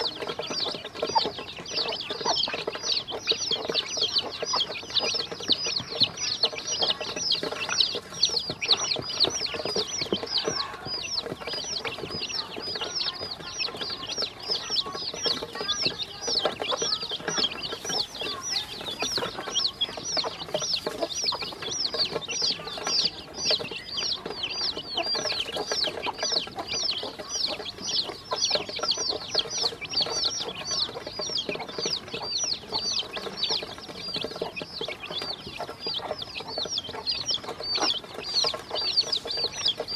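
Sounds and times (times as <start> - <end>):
beaks tapping on metal bowl: 0.0 - 39.9
chicks and ducklings peeping: 0.0 - 39.9.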